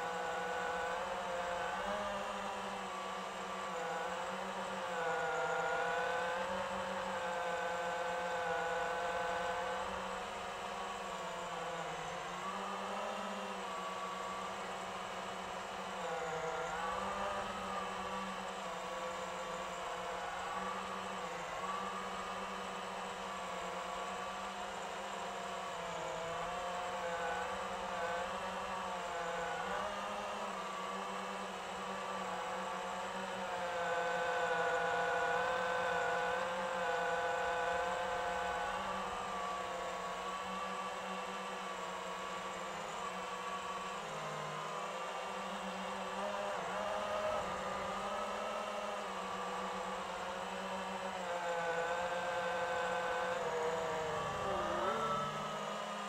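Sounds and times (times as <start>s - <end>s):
drone motors whirring: 0.1s - 56.0s.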